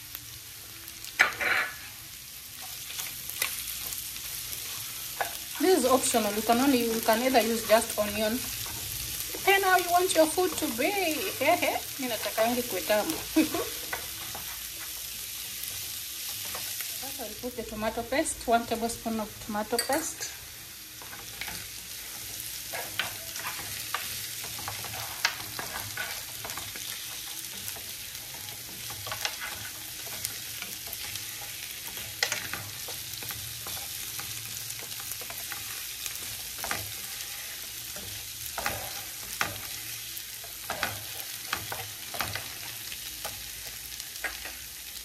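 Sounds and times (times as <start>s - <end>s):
food sizzling in a frying pan: 0.0s - 45.0s.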